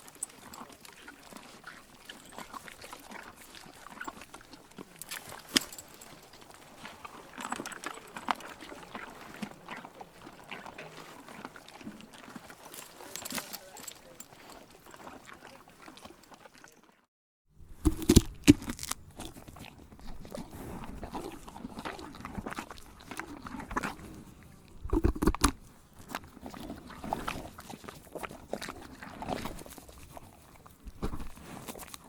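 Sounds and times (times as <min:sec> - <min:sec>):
animal chewing wetly: 0:00.0 - 0:17.0, 0:17.8 - 0:32.0.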